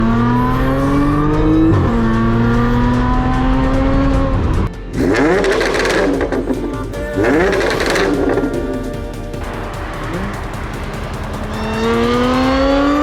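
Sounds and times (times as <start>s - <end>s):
car exhaust accelerating hard: 0.0s - 13.0s
engine throttle blips: 0.0s - 13.0s.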